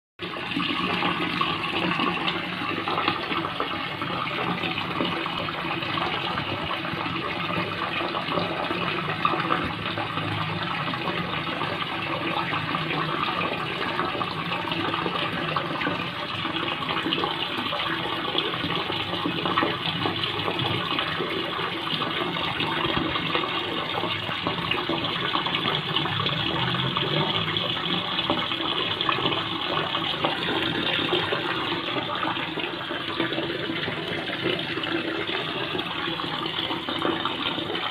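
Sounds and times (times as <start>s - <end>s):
aquarium water bubbling: 0.2s - 37.9s.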